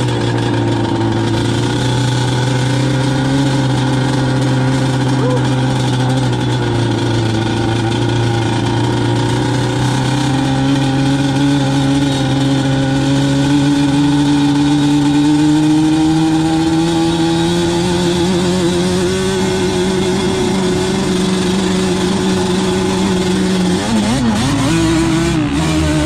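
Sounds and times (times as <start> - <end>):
atv engine under throttle: 0.0 - 26.0.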